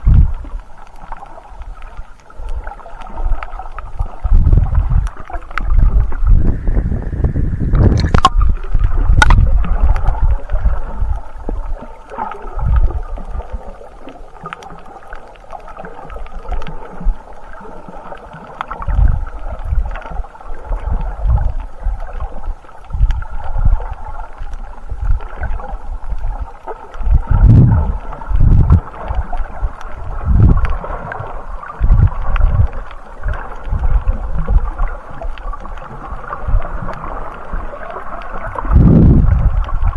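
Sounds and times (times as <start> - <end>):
underwater water surges: 0.0 - 39.9.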